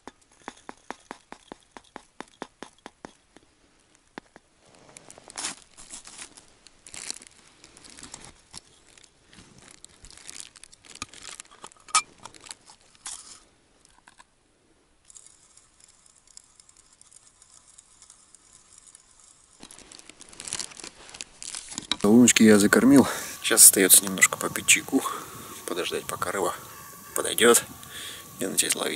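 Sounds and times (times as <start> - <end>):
faint steady hiss: 0.0 - 28.9
groundbait rustling and scraping: 4.6 - 14.3, 15.1 - 28.9.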